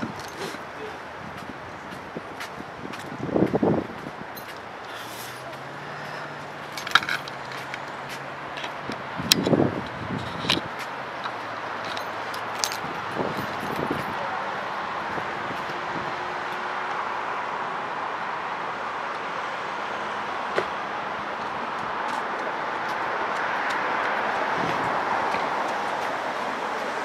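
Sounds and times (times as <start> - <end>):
steady outdoor rushing noise: 0.0 - 27.0.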